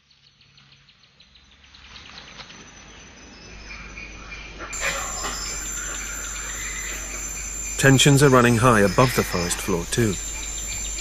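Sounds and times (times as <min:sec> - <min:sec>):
insects chirping in trills: 0:01.4 - 0:11.0.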